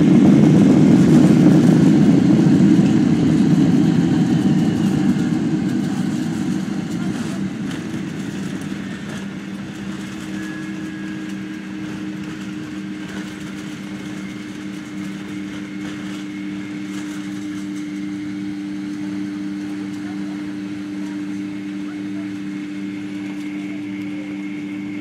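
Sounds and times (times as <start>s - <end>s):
jet engines humming: 0.0s - 25.0s.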